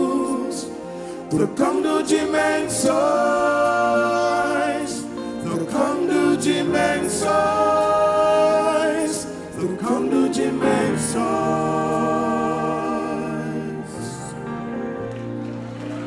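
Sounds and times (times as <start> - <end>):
voices singing a hymn: 0.0 - 15.1.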